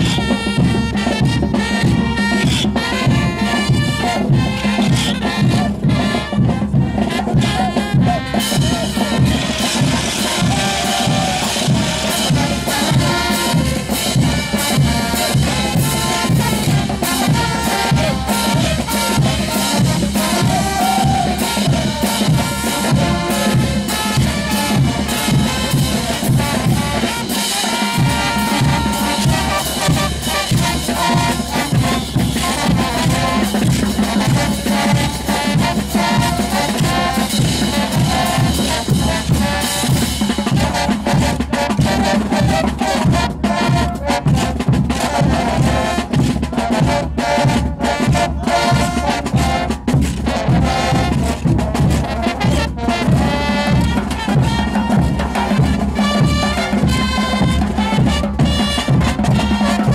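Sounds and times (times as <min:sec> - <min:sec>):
band music: 0:00.0 - 0:59.9
bass drum beat: 0:00.0 - 0:59.9.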